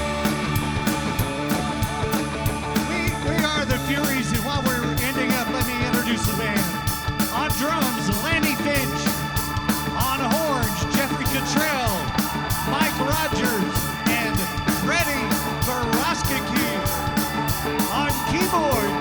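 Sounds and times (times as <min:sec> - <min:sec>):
bending sliding lead guitar line: 0:00.0 - 0:19.0
rock band playing: 0:00.0 - 0:19.0
steady drum beat: 0:00.0 - 0:19.0.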